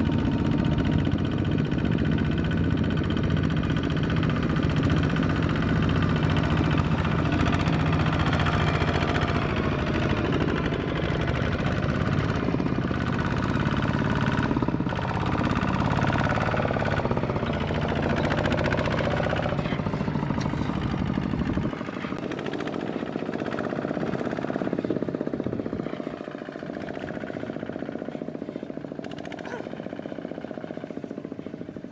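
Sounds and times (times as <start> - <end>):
diesel tractor engine knocking: 0.0 - 31.9.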